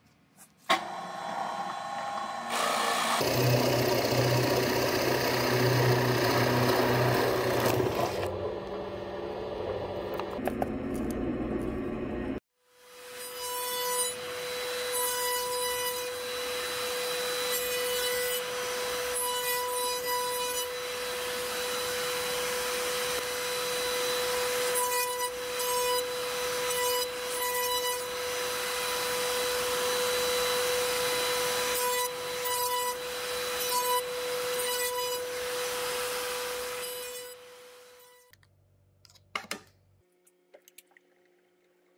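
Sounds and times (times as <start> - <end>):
router bit cutting wood: 0.7 - 10.4, 13.0 - 38.2
wood router high whine: 0.7 - 10.4, 14.1 - 38.2.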